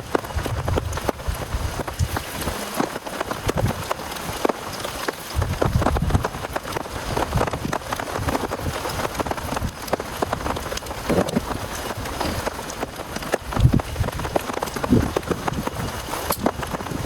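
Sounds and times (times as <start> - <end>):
heavy rain falling: 0.0 - 17.0
low rumbling gusts: 0.0 - 17.0.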